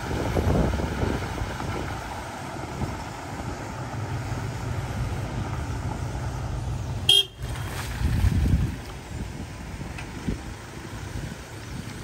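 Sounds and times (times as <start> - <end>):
vehicle engine churning through mud: 0.0 - 12.0.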